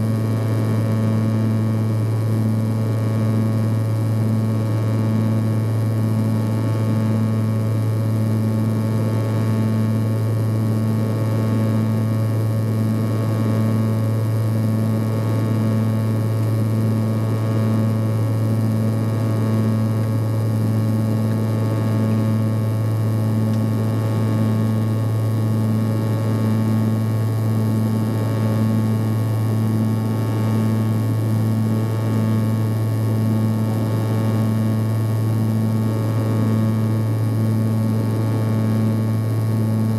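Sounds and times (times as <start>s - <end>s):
engine whine: 0.0s - 39.9s
propeller drone in cabin: 0.0s - 39.9s.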